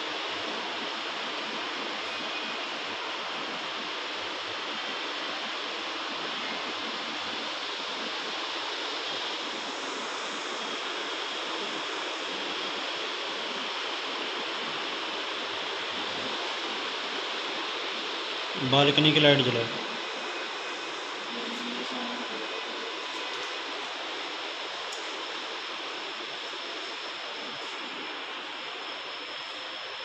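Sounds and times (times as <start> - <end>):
steady rushing hiss: 0.0 - 30.0.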